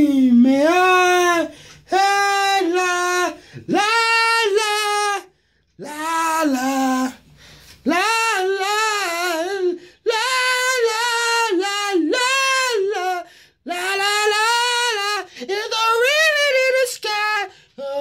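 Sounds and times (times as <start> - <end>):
man singing in falsetto: 0.0 - 7.2, 7.8 - 18.0.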